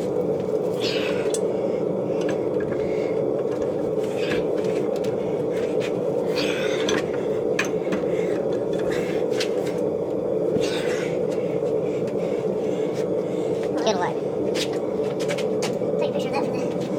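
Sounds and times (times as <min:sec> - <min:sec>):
forge burner roaring: 0:00.0 - 0:16.9.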